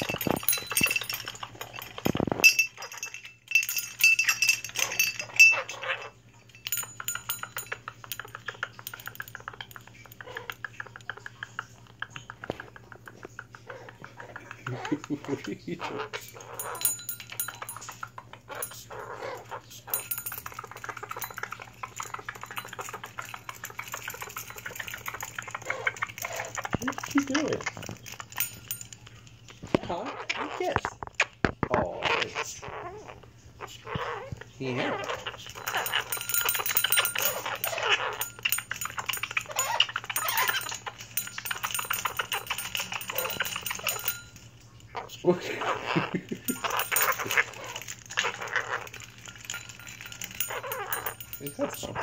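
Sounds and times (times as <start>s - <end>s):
parrot calls: 0.0s - 6.3s, 6.9s - 28.9s, 29.8s - 52.0s
small bell ringing: 0.0s - 11.6s, 15.8s - 29.5s, 34.9s - 52.0s
beak clicking on metal bell: 0.0s - 15.2s, 15.8s - 29.4s, 34.9s - 52.0s.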